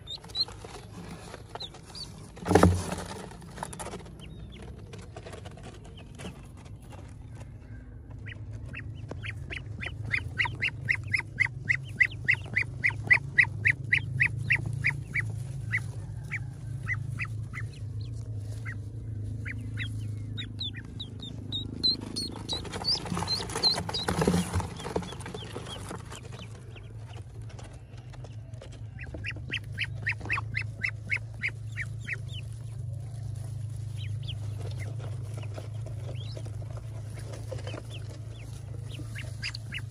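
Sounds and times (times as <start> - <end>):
grass rustling: 0.0 - 7.3, 8.2 - 28.0, 28.9 - 39.9
ducklings peeping: 0.0 - 39.9
low hum: 0.0 - 39.9.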